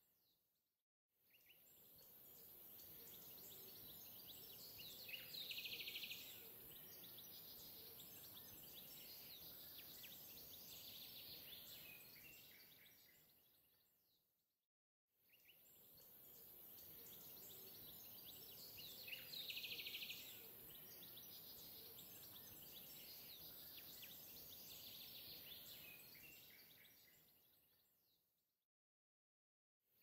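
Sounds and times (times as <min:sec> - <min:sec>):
songbird chirping: 0:01.3 - 0:14.2, 0:15.3 - 0:28.2.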